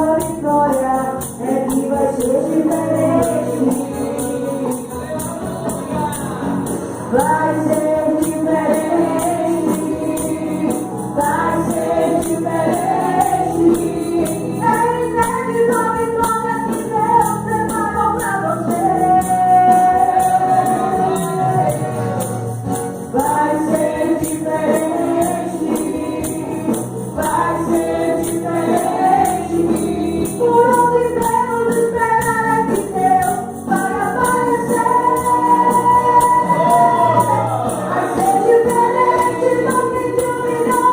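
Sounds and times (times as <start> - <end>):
group singing gospel song: 0.0 - 40.9
tambourine shaking: 0.0 - 40.9.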